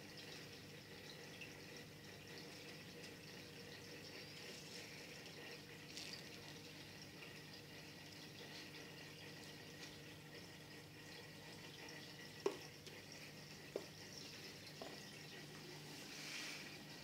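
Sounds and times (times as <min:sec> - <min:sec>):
water bubbling and trickling: 0:00.0 - 0:17.0
water drips: 0:00.0 - 0:17.0.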